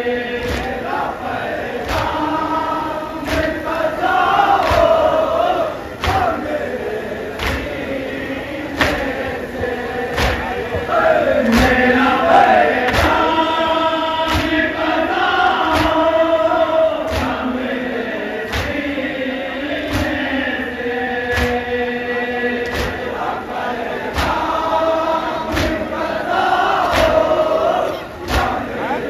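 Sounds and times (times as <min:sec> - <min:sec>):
men chanting a lament: 0:00.0 - 0:29.0
rhythmic chest-beating: 0:00.0 - 0:29.0.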